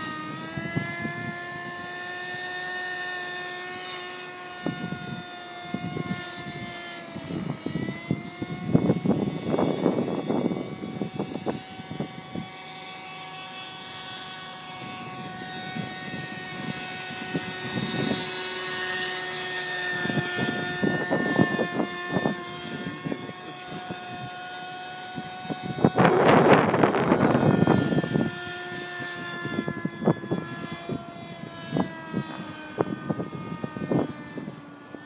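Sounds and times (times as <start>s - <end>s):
wind buffeting microphone: 0.0s - 2.4s, 4.6s - 13.1s, 13.8s - 35.0s
model helicopter whine: 0.0s - 35.0s.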